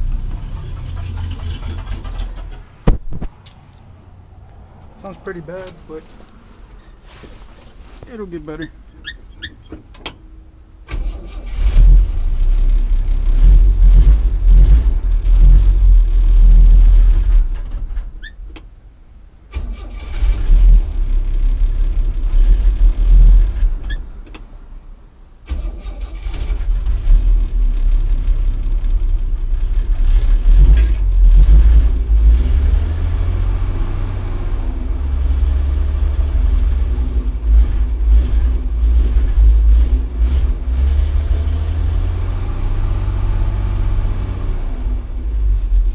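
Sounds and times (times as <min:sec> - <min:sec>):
car engine running rough: 0:00.0 - 0:08.2, 0:11.6 - 0:18.2, 0:20.1 - 0:24.0, 0:26.2 - 0:45.9.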